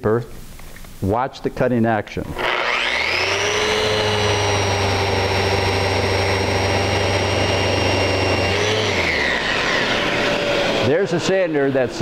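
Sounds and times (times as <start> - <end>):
sander motor whine: 2.3 - 12.0.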